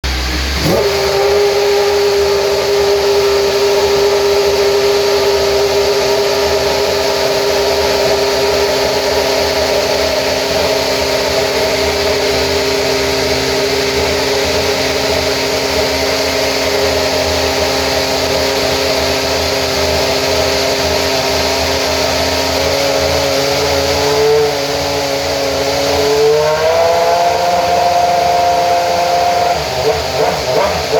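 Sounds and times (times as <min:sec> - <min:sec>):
racing car engine revving: 0:00.0 - 0:30.9.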